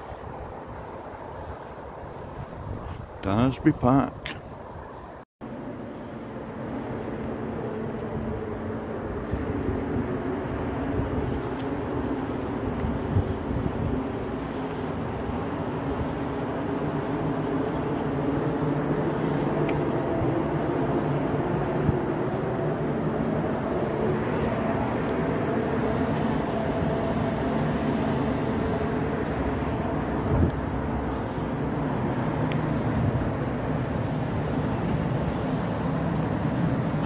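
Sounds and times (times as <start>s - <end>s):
low mechanical rumble: 4.4s - 37.0s.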